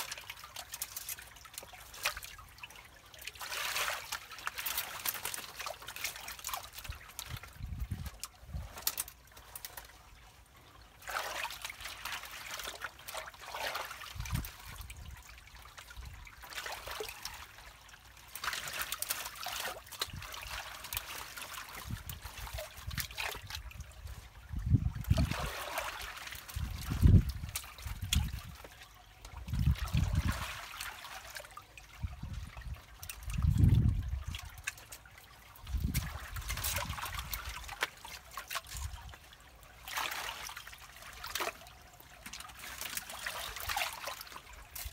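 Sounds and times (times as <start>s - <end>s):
water running through a drain: 0.0s - 44.9s.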